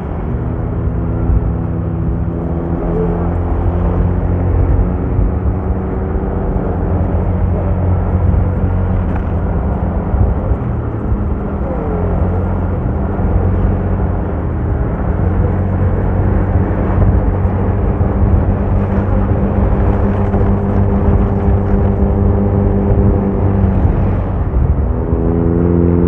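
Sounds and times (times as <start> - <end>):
road noise: 0.0 - 26.0
vehicle engine hum: 0.0 - 26.0.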